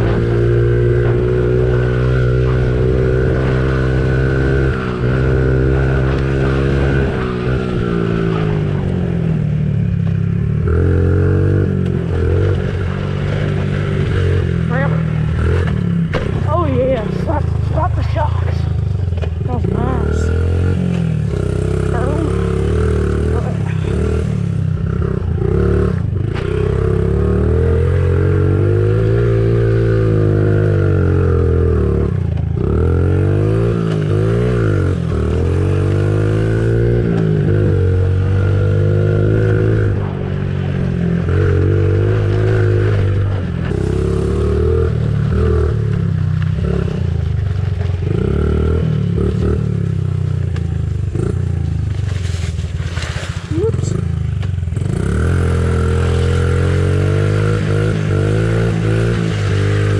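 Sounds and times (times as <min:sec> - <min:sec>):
pit bike engine revving: 0:00.0 - 0:59.9.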